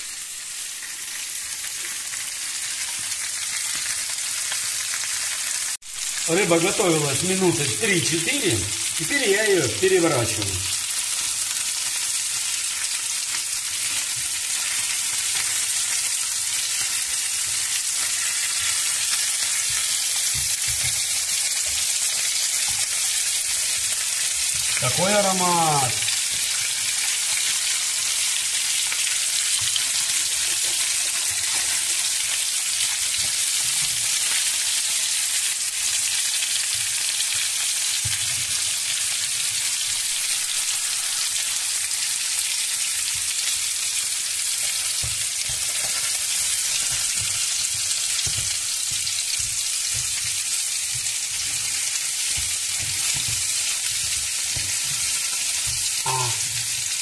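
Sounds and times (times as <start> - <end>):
fish frying in hot oil: 0.0 - 57.0.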